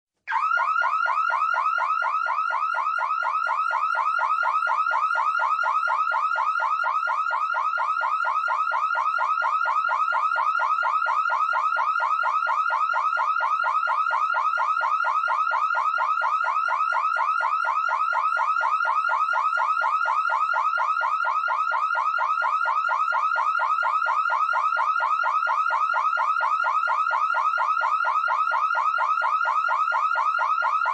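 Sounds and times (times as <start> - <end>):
car alarm siren: 0.3 - 30.9.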